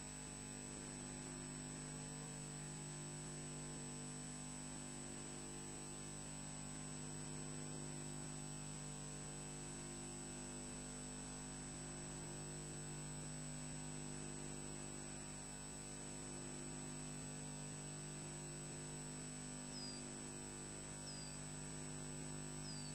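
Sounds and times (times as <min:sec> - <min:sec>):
electrical hum with hiss and whine: 0:00.0 - 0:22.9.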